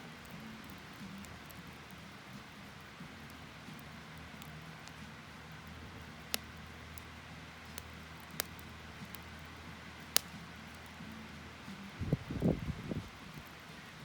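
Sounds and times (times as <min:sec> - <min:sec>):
low hiss: 0:00.0 - 0:14.0
wood fire crackling: 0:00.0 - 0:14.0.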